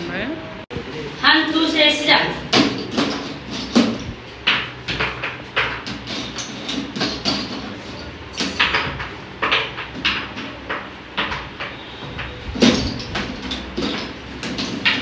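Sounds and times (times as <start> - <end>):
pegs knocking and clattering: 2.5 - 15.0.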